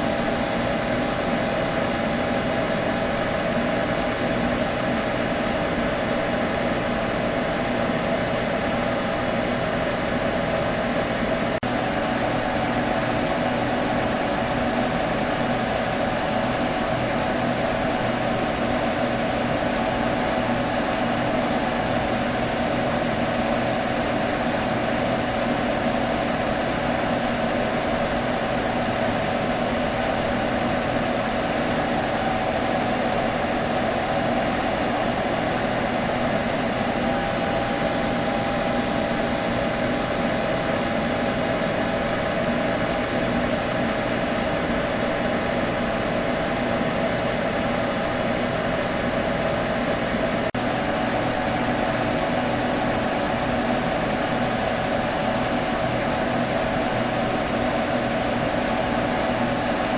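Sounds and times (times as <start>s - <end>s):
computer fan humming: 0.0s - 59.9s.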